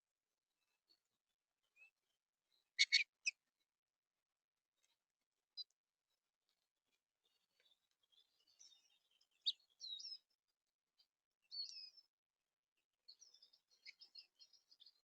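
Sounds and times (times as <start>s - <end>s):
small songbirds chirping: 0.6s - 3.8s, 4.8s - 15.0s.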